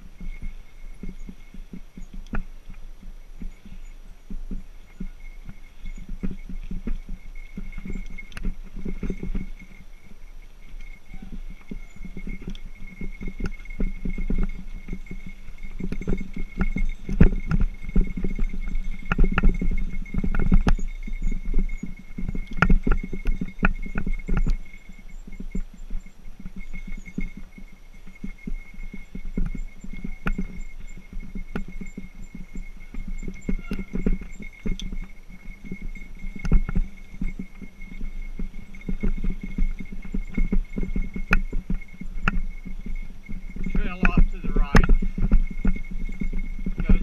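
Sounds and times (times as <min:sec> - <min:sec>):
bike rattling and knocking: 0:00.0 - 0:47.0.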